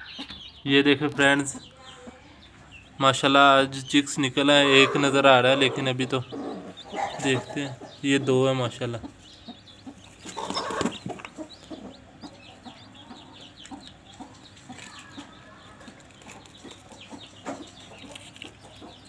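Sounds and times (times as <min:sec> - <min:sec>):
chicks peeping: 0:00.0 - 0:19.0
hen clucking: 0:00.0 - 0:19.0.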